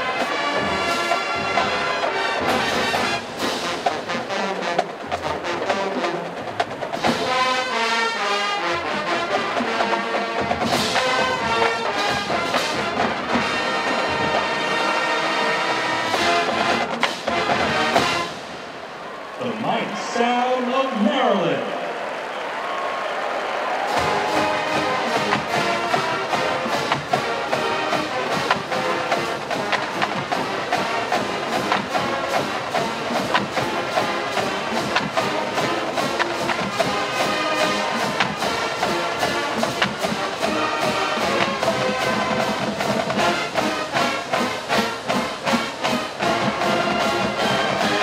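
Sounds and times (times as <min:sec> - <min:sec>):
drumline beat: 0:00.0 - 0:18.8, 0:19.6 - 0:48.0
marching band playing funk: 0:00.0 - 0:18.8, 0:23.2 - 0:48.0.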